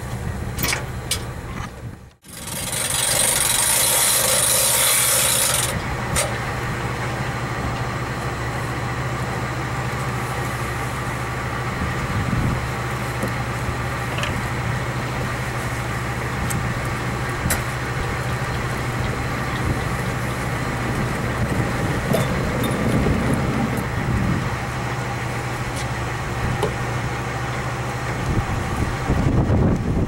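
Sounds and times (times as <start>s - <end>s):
truck engine idling: 5.5s - 30.0s.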